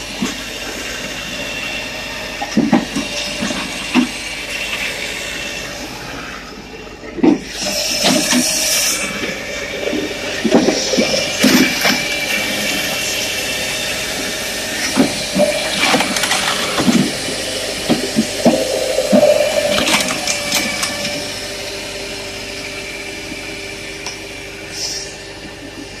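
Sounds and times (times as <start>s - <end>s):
firewood processor running: 0.0s - 26.0s.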